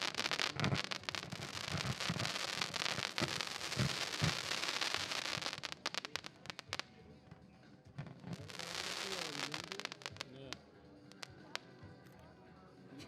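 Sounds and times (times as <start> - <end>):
firework crackling: 0.0 - 6.9, 8.0 - 11.6.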